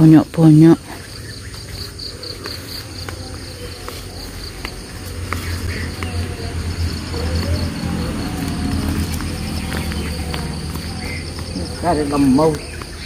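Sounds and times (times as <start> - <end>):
insect chirping trill: 0.0 - 13.0.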